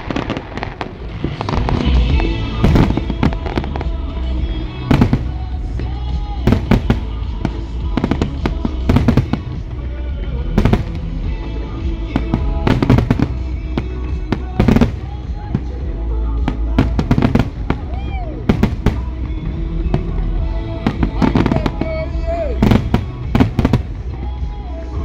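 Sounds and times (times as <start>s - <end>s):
fireworks bangs: 0.0s - 25.0s
rumble of explosions: 0.0s - 25.0s.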